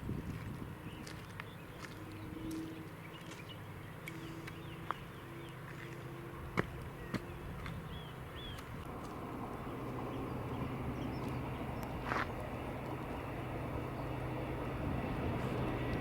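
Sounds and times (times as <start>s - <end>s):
distant engine drone: 0.0s - 16.0s.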